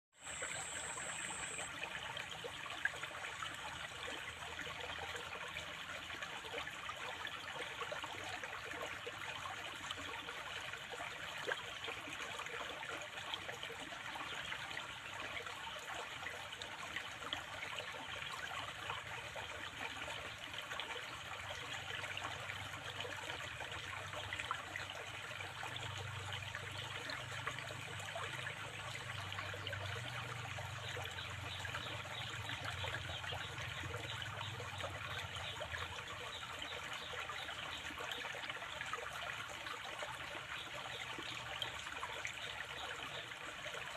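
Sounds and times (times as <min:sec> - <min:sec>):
water flowing and trickling: 0:00.1 - 0:43.9.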